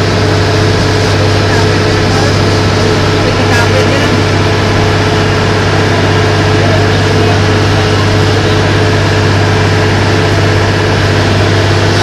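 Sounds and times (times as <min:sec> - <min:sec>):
motorboat engine droning: 0:00.0 - 0:12.0
water rushing along hull: 0:00.0 - 0:12.0.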